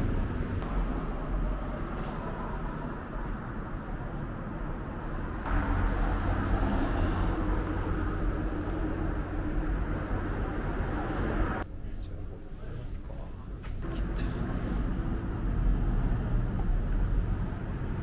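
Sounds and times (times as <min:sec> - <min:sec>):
road traffic rumble: 0:00.0 - 0:18.0
vehicle engine: 0:00.0 - 0:18.0.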